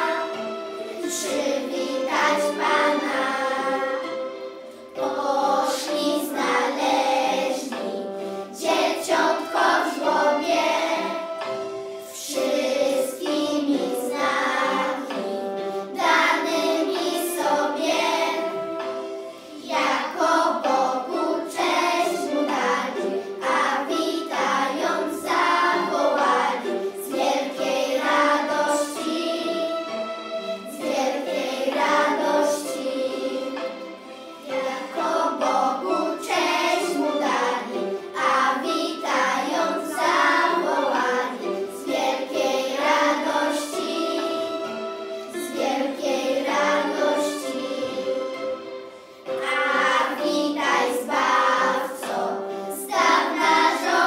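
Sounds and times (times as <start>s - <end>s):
children's choir singing a carol: 0.0s - 54.0s.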